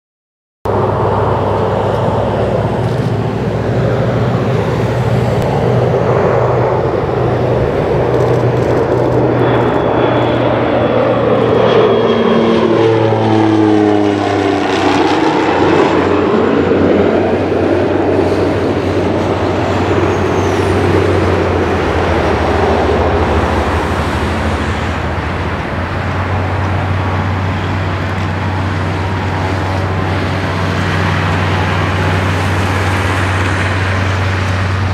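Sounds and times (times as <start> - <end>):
turboprop plane passing: 0.7 - 34.9.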